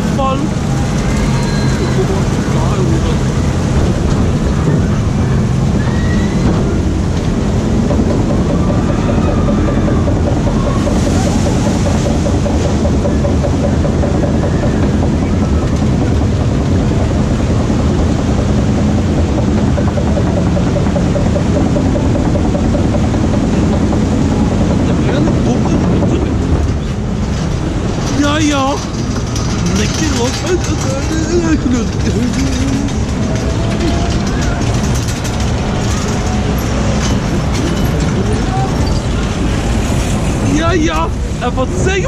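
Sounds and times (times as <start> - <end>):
held hum: 0.0 - 42.0
lift hill mechanical rumble: 0.0 - 42.0.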